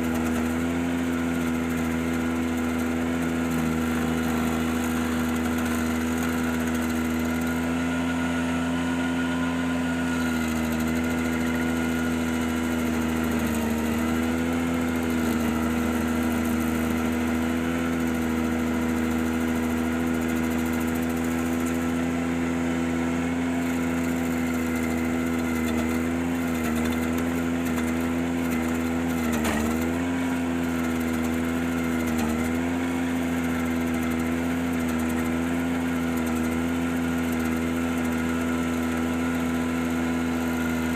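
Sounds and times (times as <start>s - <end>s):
tractor stump grinder droning: 0.0s - 40.9s.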